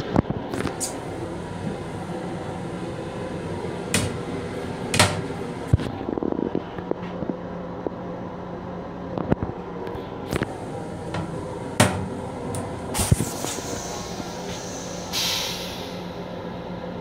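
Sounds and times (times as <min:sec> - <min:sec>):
steady hum: 0:00.1 - 0:17.0.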